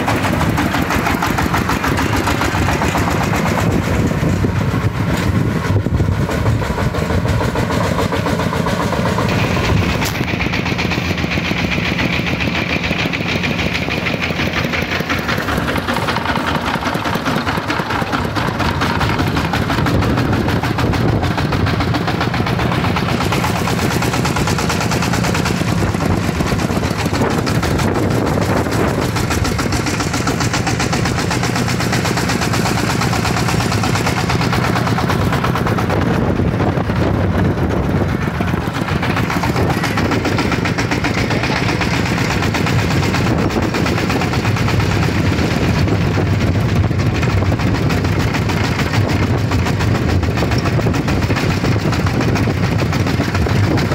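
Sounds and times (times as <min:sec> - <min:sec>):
diesel engine chugging: 0:00.0 - 0:53.9.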